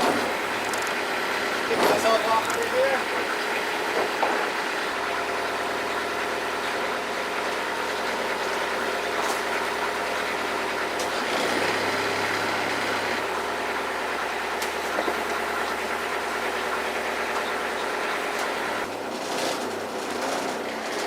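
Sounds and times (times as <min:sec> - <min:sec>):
boat inboard engine running slow: 0:00.0 - 0:19.0.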